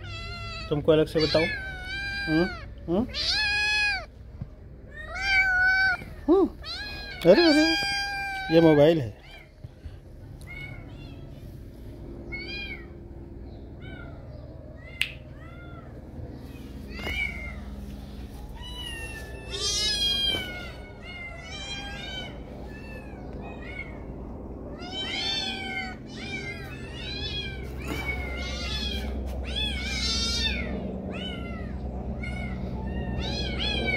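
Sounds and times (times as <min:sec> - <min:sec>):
kittens meowing: 0:00.0 - 0:11.5, 0:12.2 - 0:33.9.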